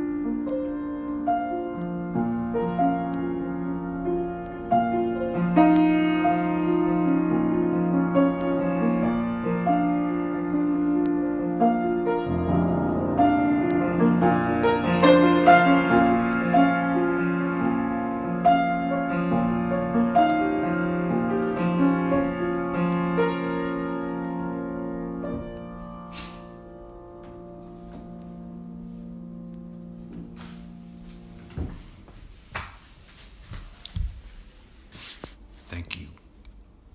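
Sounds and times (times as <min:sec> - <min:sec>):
solo piano: 0:00.0 - 0:32.5.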